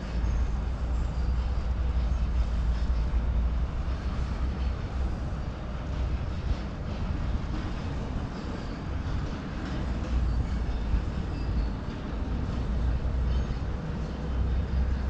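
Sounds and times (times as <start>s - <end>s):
excavator diesel engine rumbling: 0.0s - 15.0s.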